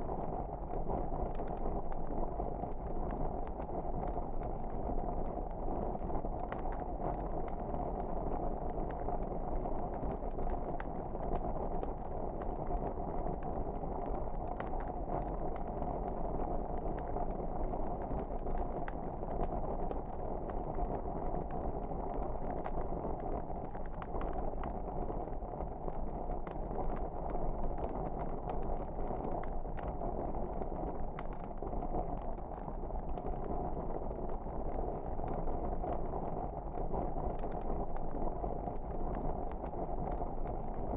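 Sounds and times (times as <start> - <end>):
fire crackles and pops: 0.0 - 40.9.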